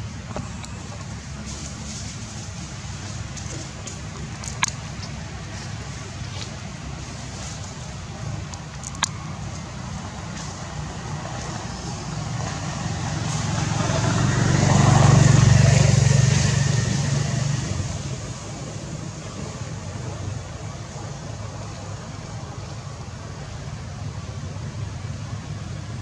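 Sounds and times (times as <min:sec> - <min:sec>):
road noise: 0:00.0 - 0:26.0
vehicle engine rumble: 0:00.0 - 0:26.0.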